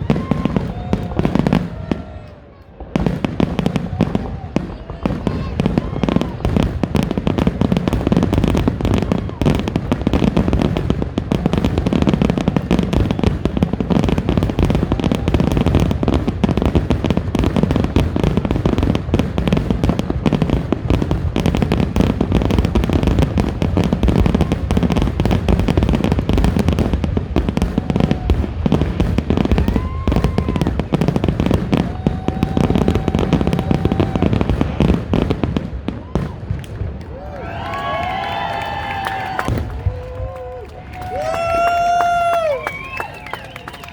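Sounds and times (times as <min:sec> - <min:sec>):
fireworks booming and crackling: 0:00.0 - 0:43.9.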